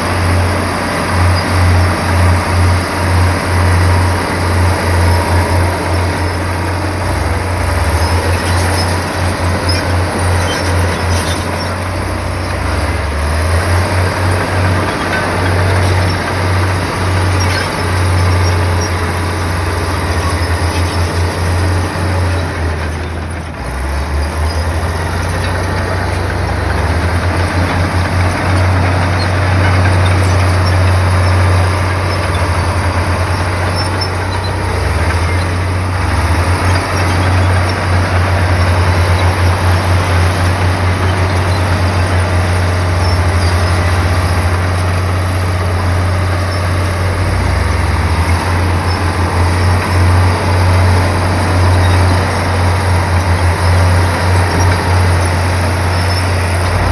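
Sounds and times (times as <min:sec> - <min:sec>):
heavy diesel engine throbbing: 0:00.0 - 0:56.9.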